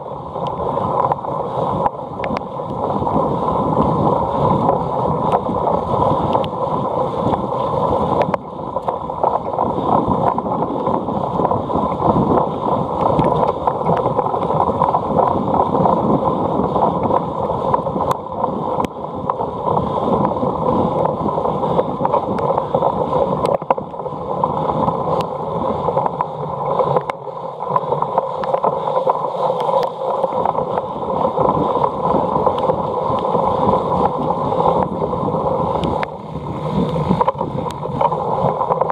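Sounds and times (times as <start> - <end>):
bike rolling rattle: 0.0 - 38.9
wind rushing over microphone: 0.0 - 38.9.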